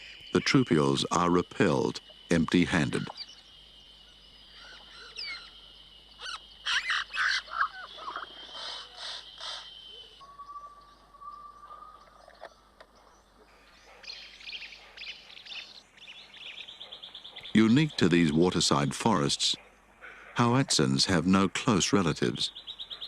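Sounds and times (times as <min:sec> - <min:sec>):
birds chirping and whistling: 0:00.0 - 0:18.7, 0:22.0 - 0:23.0.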